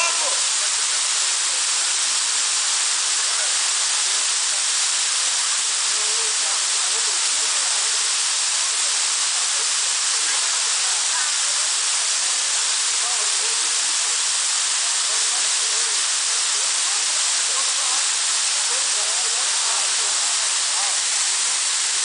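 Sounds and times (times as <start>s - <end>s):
waterfall pouring: 0.0s - 22.0s.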